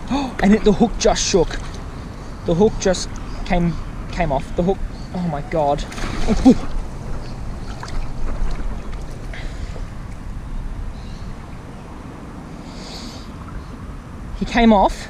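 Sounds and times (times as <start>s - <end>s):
wind buffeting microphone: 0.0s - 14.9s
faint water at shoreline: 0.0s - 15.0s.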